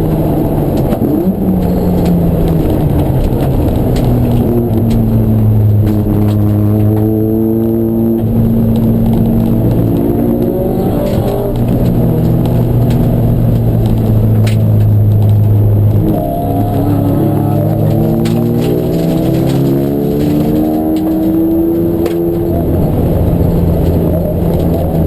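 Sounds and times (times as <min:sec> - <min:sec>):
racing car engine at high revs: 0:00.0 - 0:25.0.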